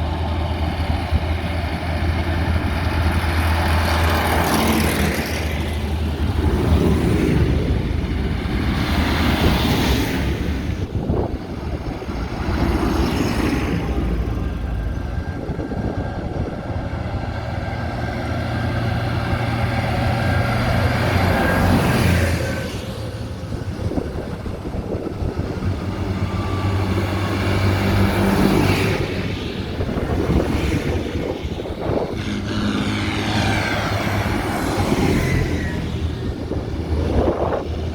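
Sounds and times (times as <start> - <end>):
tractors driving past: 0.0 - 37.9.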